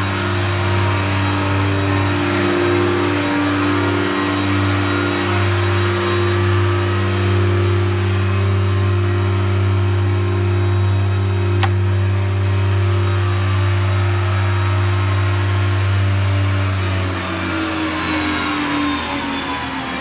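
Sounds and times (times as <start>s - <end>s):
planer machine humming: 0.0s - 20.0s.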